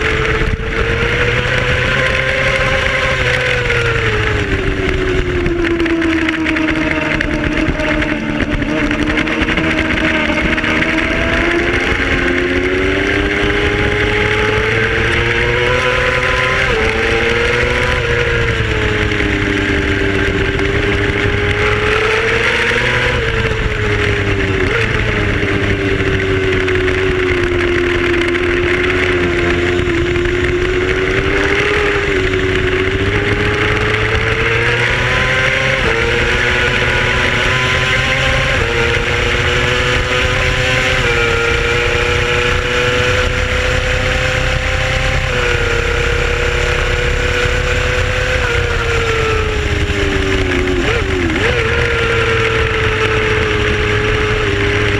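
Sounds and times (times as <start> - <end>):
race motorcycle engine: 0.0 - 54.9
wind rushing over microphone: 0.0 - 54.9.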